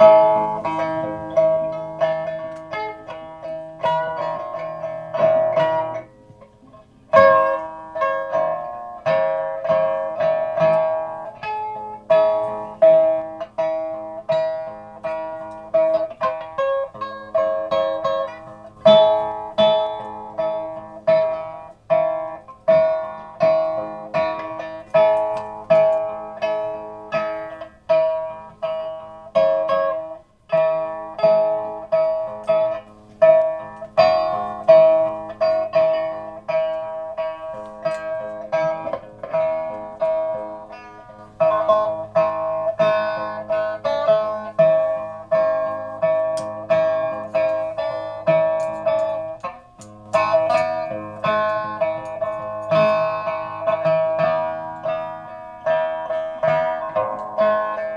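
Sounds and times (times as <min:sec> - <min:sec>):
plucked string instrument: 0:00.0 - 0:57.9.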